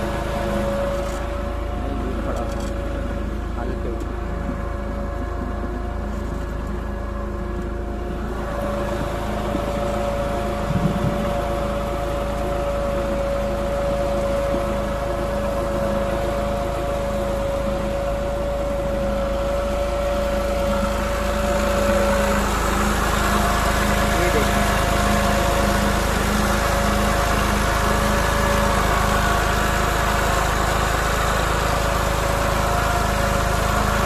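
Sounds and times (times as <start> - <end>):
steady whine: 0.0 - 34.0
tractor engine running: 0.0 - 34.0.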